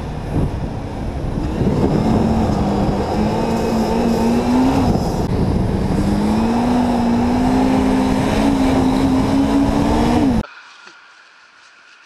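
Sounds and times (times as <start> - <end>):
atv engine accelerating: 0.0 - 10.4.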